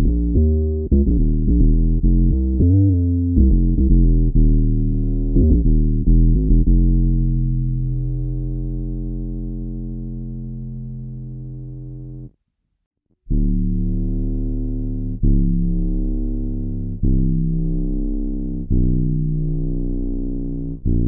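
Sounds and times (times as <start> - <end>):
electric bass low notes: 0.0 - 12.3, 13.3 - 21.0.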